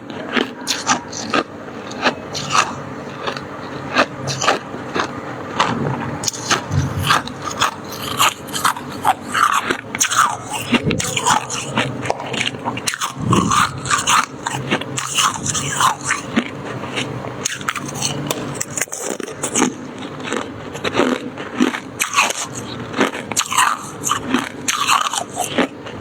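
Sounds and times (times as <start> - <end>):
chewing crunchy ice: 0.0 - 26.0.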